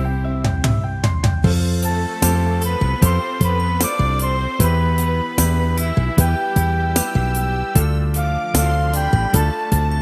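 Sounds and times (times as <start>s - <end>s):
backing track with keyboard bass drums: 0.0s - 10.0s.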